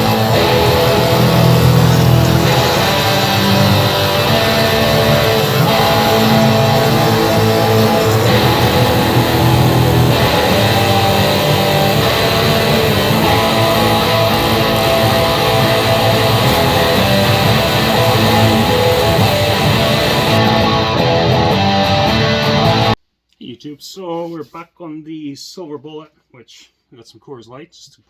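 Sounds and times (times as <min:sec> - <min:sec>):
guitar rock music: 0:00.0 - 0:23.0.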